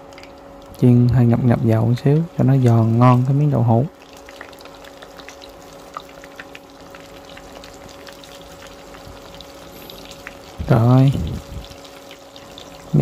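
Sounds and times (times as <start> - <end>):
tofu sizzling in oil: 1.6 - 13.0.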